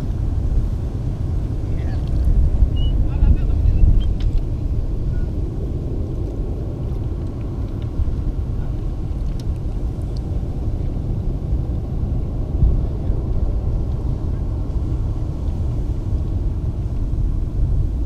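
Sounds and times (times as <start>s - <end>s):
low river ambience rumble: 0.0s - 18.0s.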